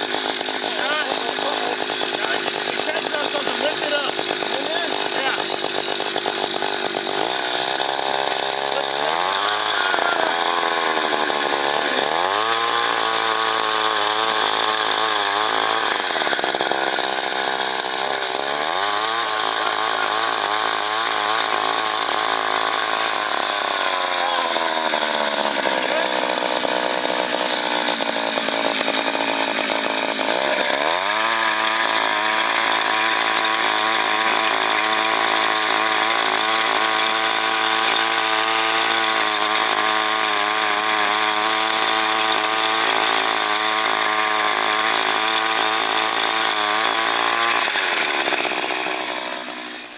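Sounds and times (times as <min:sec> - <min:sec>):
auger gas engine revving: 0:00.0 - 0:49.9.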